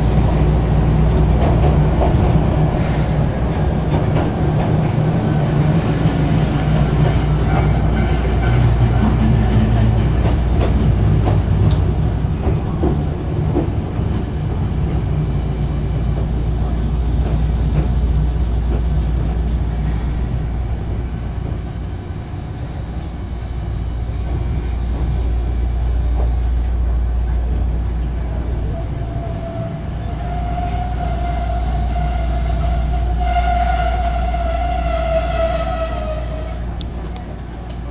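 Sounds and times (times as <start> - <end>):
train rumbling: 0.0 - 37.9.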